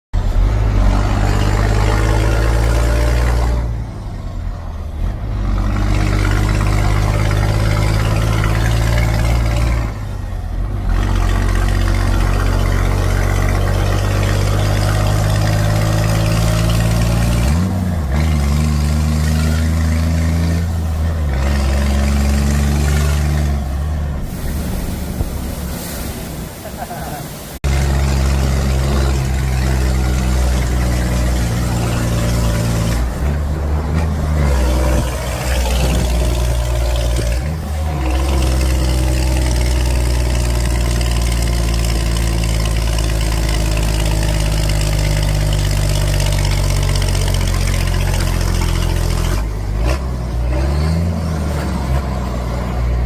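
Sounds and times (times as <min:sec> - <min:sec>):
truck diesel engine changing gear: 0:00.2 - 0:53.0.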